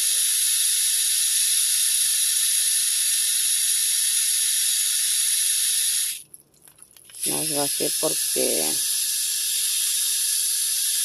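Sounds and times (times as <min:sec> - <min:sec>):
garden hose spray hissing: 0:00.0 - 0:06.2, 0:07.2 - 0:11.0.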